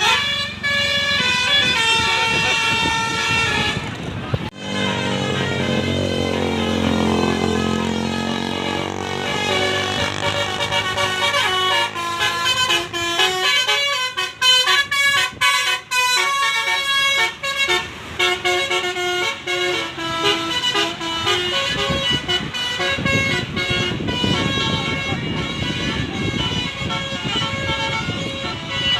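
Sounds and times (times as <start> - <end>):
multi-tone bus horn melody: 0.0 - 28.9
vehicle noise: 0.0 - 28.9.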